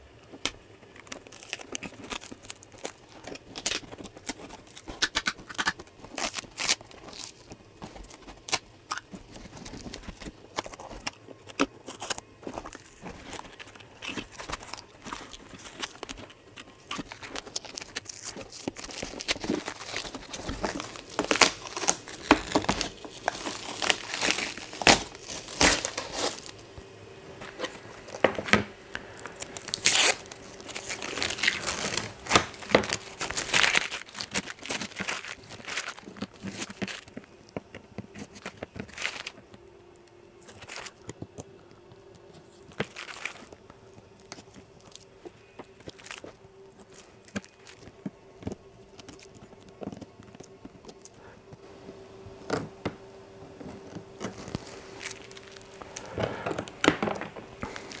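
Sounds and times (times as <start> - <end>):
plastic sheet crinkling: 0.0 - 58.0
tape peeling and ripping: 0.4 - 26.7, 27.4 - 37.3, 38.0 - 39.4, 42.2 - 51.2, 53.6 - 58.0.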